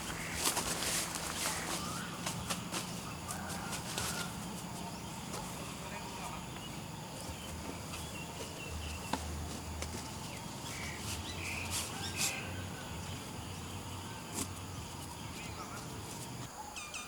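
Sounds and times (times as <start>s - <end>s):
high insect drone: 0.0s - 16.6s
bird chirps: 0.0s - 17.0s.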